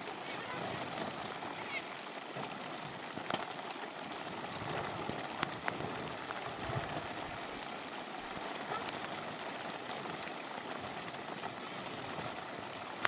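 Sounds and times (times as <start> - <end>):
sharp raindrop taps: 0.0 - 13.0
steady rain falling: 0.0 - 13.0.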